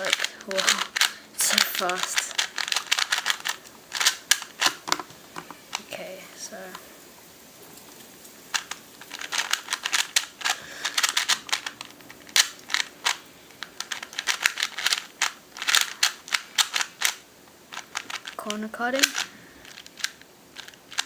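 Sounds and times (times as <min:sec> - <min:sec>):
puzzle cube clicking: 0:00.0 - 0:05.9, 0:08.5 - 0:21.0.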